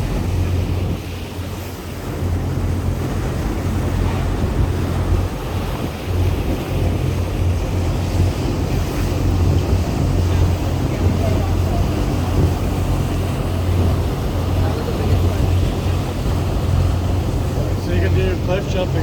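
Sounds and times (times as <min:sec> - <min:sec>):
boat engine humming: 0:00.0 - 0:19.0
water rushing along hull: 0:00.0 - 0:19.0
wind buffeting microphone: 0:00.0 - 0:19.0.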